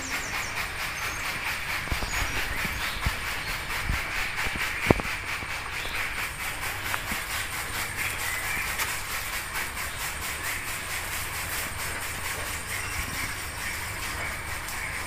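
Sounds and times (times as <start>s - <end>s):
steady hiss with faint pulsing: 0.0s - 15.0s.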